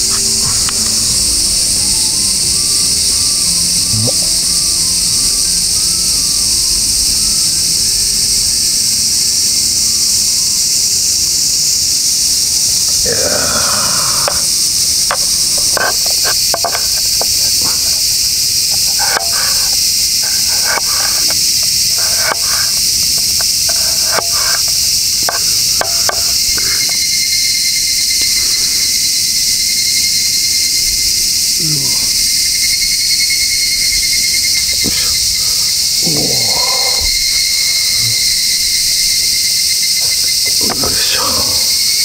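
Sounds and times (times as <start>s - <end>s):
cicadas droning: 0.0s - 42.0s
rapidly pulsing insect song: 0.0s - 42.0s.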